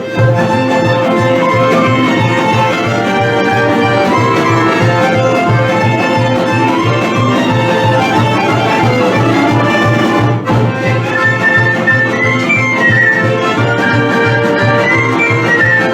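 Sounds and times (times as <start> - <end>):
folk dance music with fiddle: 0.0 - 15.9.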